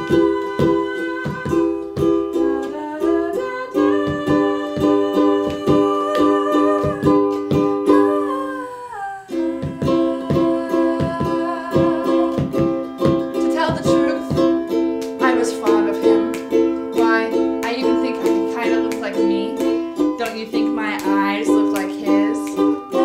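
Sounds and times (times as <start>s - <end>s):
long held notes: 0.0s - 23.0s
ukulele strumming: 0.0s - 23.0s.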